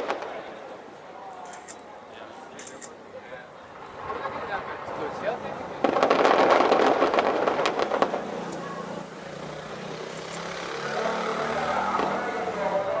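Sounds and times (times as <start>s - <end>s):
fireworks crackling: 0.0s - 1.8s, 3.6s - 13.0s.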